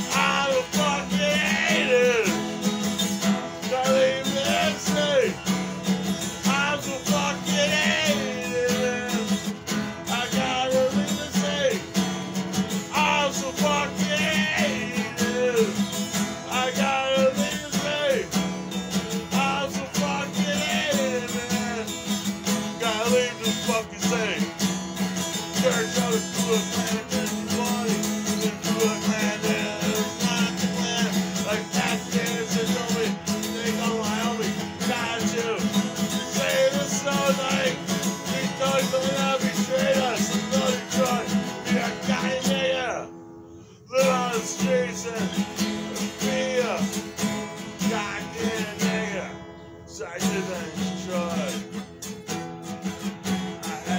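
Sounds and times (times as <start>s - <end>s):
man singing: 0.0s - 2.6s, 3.4s - 5.6s, 6.2s - 12.0s, 12.7s - 18.5s, 19.1s - 24.6s, 25.3s - 43.2s, 43.8s - 51.8s, 53.4s - 53.9s
acoustic guitar: 0.0s - 53.9s.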